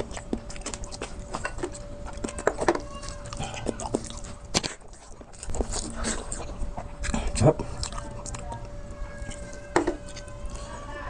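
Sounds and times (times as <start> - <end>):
chewing and wet mouth sounds: 0.0 - 11.0
faint steady hum: 0.0 - 11.0.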